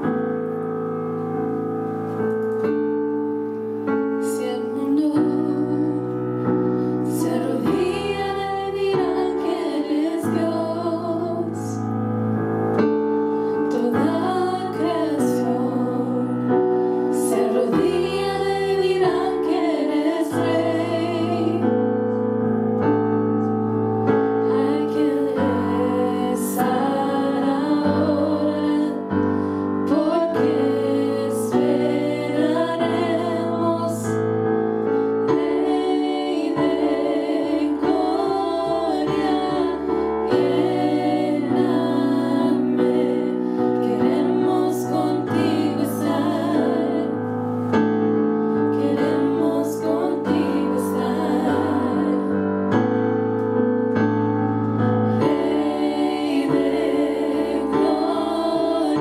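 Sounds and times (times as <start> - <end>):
women singing in harmony: 4.1 - 22.2, 24.1 - 47.8, 48.5 - 52.7, 55.1 - 59.0.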